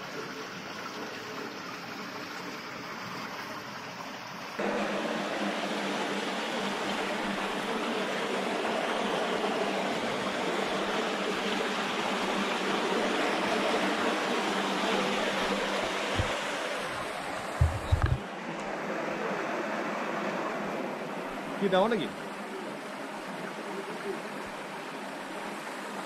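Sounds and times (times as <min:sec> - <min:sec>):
shallow water rushing: 0:00.0 - 0:26.0.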